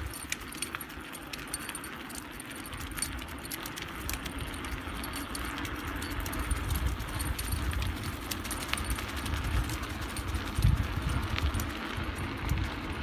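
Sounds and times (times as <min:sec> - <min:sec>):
metallic jingling: 0:00.0 - 0:10.8
bike tyres rolling on dirt: 0:00.0 - 0:13.0.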